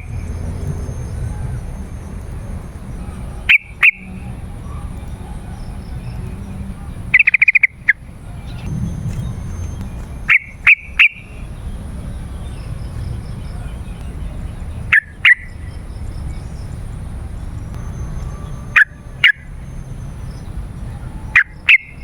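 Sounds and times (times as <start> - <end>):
bird calling: 0.0 - 22.0
steady low rumble: 0.0 - 22.0.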